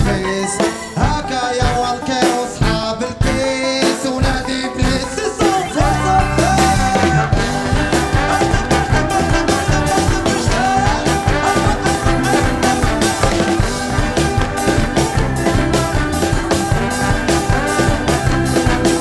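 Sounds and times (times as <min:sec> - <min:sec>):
drum kit steady beat: 0:00.0 - 0:19.0
live reggae band playing: 0:00.0 - 0:19.0.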